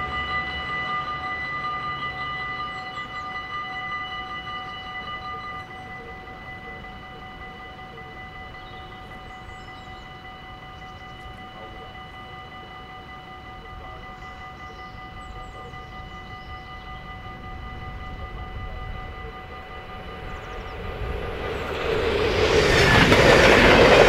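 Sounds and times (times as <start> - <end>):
level crossing bell ringing: 0.0 - 24.0
train rumble: 0.0 - 24.0
birds chirping: 0.3 - 24.0.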